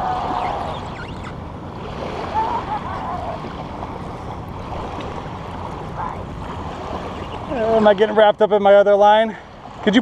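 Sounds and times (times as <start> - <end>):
small waves washing on sand: 0.0 - 8.2.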